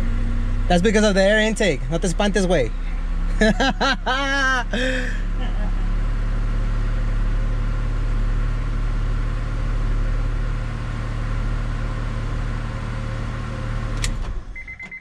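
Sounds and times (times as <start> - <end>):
car engine idling: 0.0 - 14.5.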